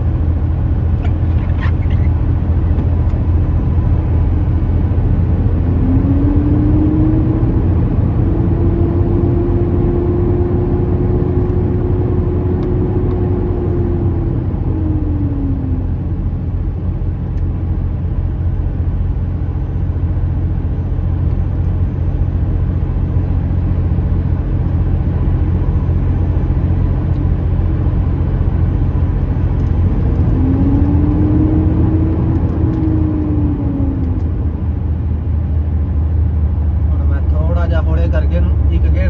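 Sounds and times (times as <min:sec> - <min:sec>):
truck diesel engine droning: 0:00.0 - 0:39.0
rising and falling whine: 0:02.8 - 0:17.8, 0:18.4 - 0:36.3.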